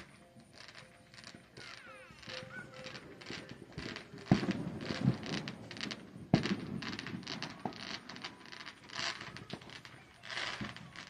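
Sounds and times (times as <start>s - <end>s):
fireworks popping and crackling: 0.0s - 11.0s
fireworks sharp bangs: 0.0s - 11.0s.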